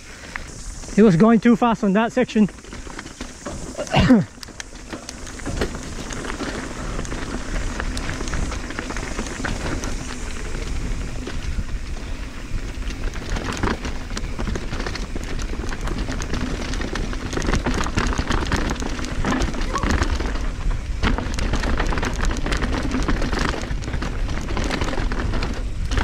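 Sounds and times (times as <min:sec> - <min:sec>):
bike clicks and rattles: 0:00.0 - 0:26.0
bike tyres crackling over dirt: 0:00.0 - 0:26.0
wind rumble on microphone: 0:02.5 - 0:26.0.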